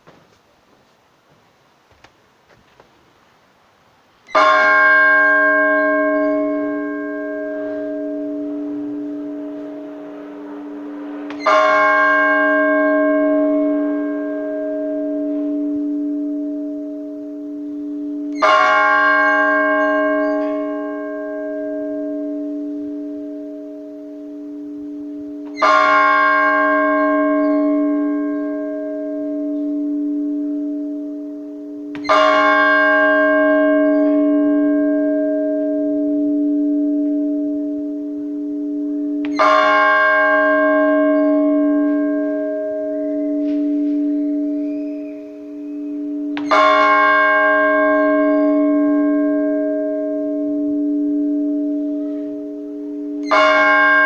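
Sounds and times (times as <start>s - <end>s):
church bell tolling: 4.3s - 54.0s.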